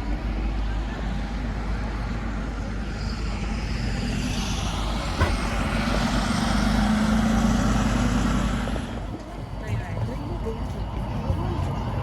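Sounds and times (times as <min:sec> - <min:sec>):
heavy vehicle engine running: 0:00.0 - 0:12.0
street traffic: 0:00.0 - 0:12.0.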